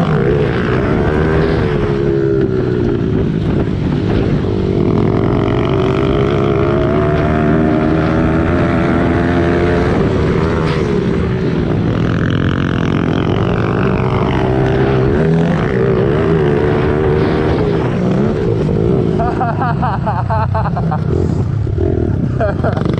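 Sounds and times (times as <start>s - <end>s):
pit bike engine revving: 0.0s - 22.9s.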